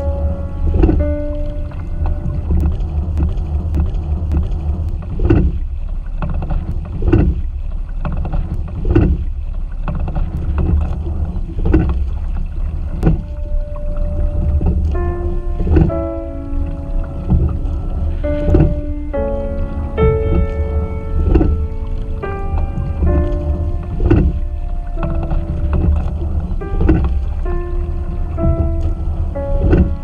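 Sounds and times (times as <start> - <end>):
oar stroke splash and knocks: 0.0 - 30.0
water rushing along hull: 0.0 - 30.0.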